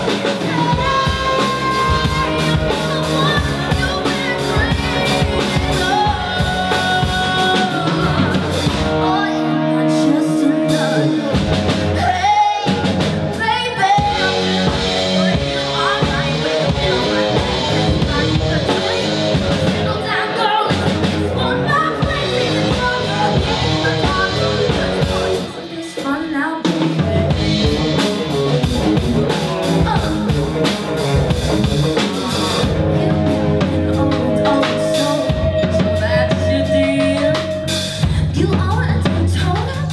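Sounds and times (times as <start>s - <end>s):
woman singing into microphone: 0.0s - 27.4s, 32.7s - 39.9s
band playing: 0.0s - 39.9s.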